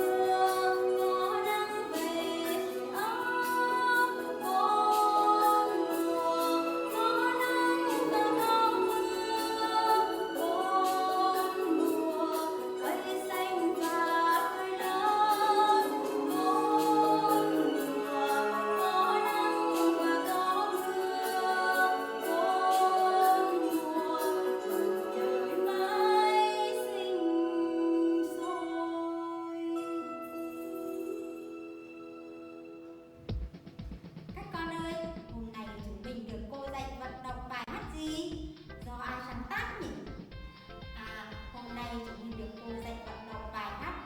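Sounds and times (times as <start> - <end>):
children's song with singing: 0.0 - 32.6, 34.3 - 44.0.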